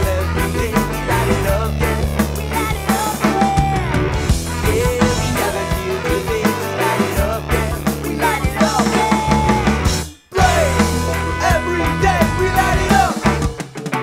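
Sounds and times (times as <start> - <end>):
rock music with drum beat: 0.0 - 14.0.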